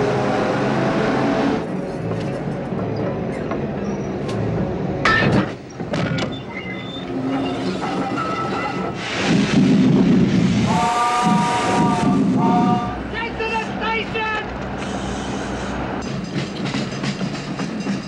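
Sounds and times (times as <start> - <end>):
railway wagons rumbling on track: 0.0 - 18.0.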